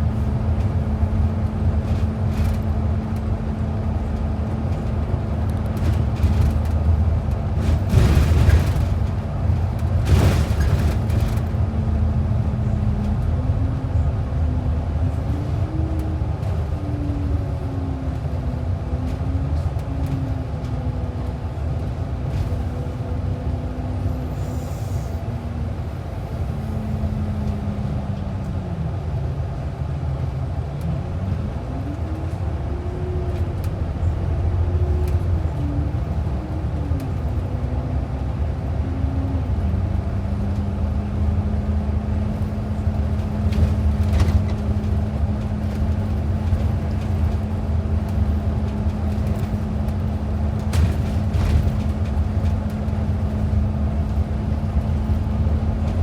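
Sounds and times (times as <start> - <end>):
bus road rumble: 0.0 - 56.0.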